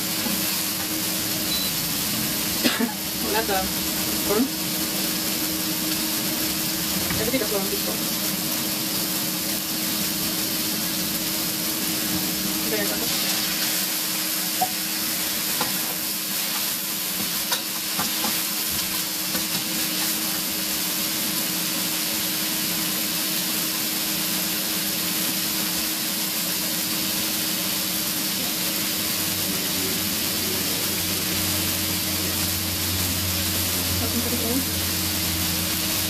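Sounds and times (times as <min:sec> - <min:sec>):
food sizzling in frying pan: 0:00.0 - 0:36.0.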